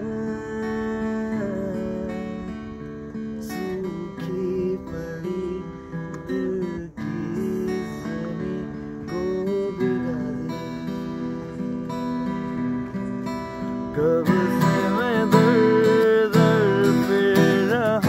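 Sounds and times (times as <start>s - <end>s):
acoustic guitar strummed chords: 0.0s - 18.0s.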